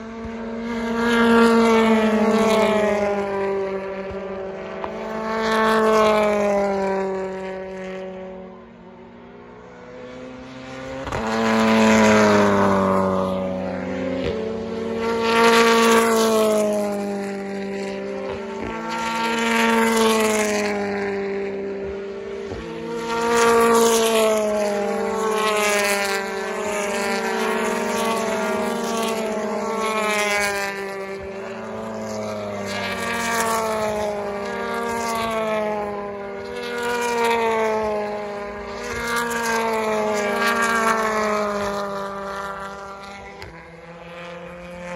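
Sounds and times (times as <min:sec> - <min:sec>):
racing cars passing: 0:00.0 - 0:44.9.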